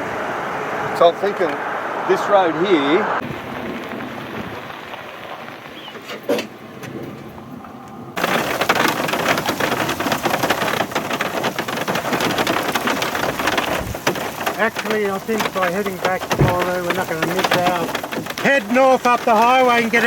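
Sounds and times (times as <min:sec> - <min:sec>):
heavy rain: 0:00.0 - 0:07.4, 0:08.1 - 0:20.0.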